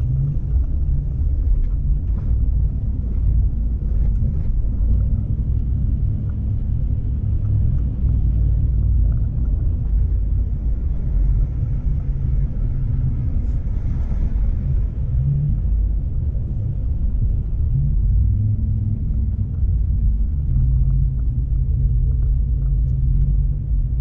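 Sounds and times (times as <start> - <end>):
car driving on highway: 0.0 - 24.0.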